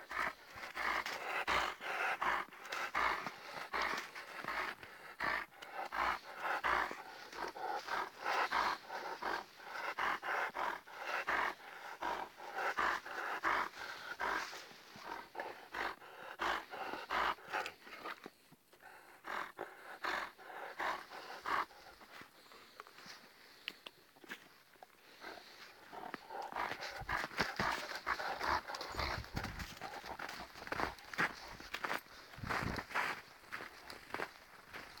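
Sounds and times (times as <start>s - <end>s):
dogs panting: 0.0s - 35.0s.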